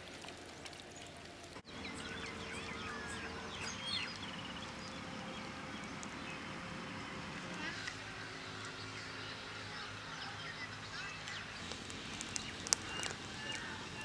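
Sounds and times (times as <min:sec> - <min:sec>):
faint outdoor background noise: 0:00.0 - 0:14.0
small birds chirping: 0:00.9 - 0:14.0.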